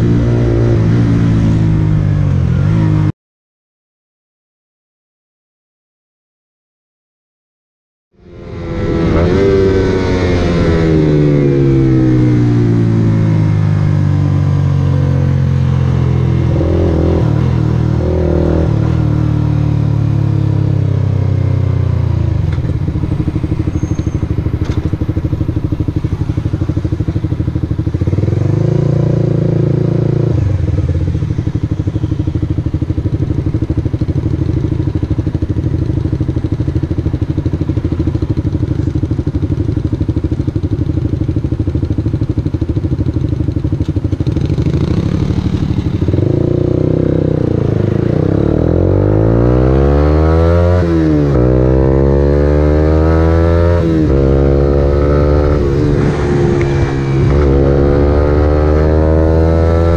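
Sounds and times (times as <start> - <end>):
motorcycle engine: 8.2 - 59.9.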